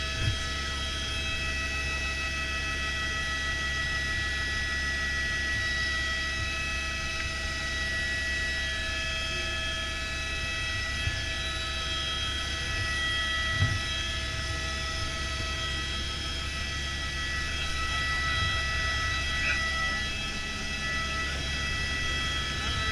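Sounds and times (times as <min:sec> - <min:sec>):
helicopter turbine whine and rotor drone: 0:00.0 - 0:22.9.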